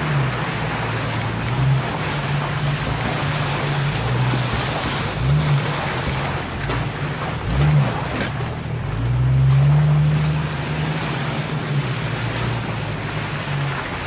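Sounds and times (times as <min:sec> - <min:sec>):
engine revving off-road: 0:00.0 - 0:14.0.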